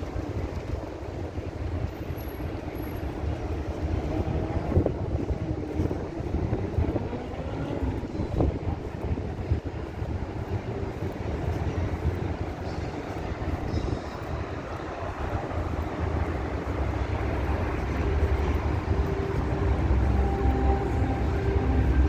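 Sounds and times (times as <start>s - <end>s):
low rumble of engines: 0.0s - 22.0s.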